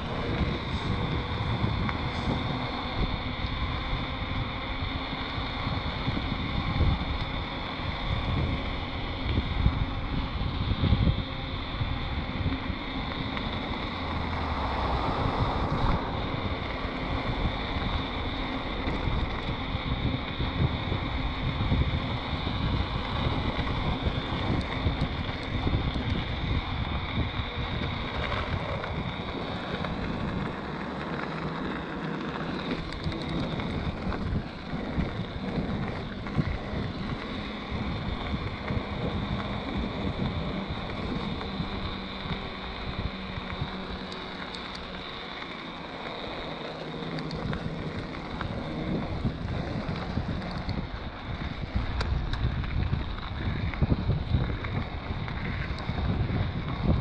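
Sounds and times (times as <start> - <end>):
electric motor high whine: 0.0 - 57.0
tyres rolling on asphalt: 0.0 - 57.0
wind buffeting microphone: 0.0 - 57.0.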